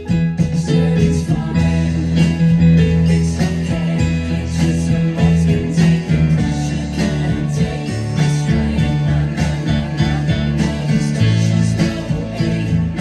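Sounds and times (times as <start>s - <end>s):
pop-rock music: 0.0s - 13.0s
synthesizer keyboard playing: 0.0s - 13.0s.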